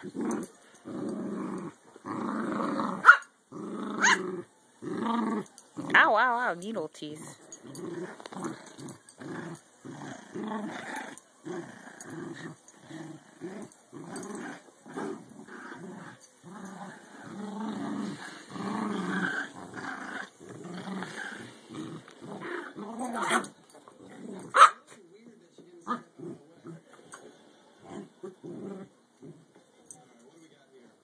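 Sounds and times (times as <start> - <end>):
dog play-growling: 0.0 - 6.3, 7.3 - 30.3.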